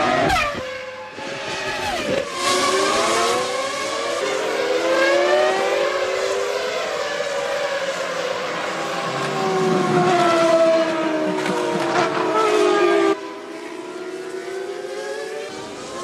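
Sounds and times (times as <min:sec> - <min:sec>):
racing car engines passing: 0:00.0 - 0:16.0.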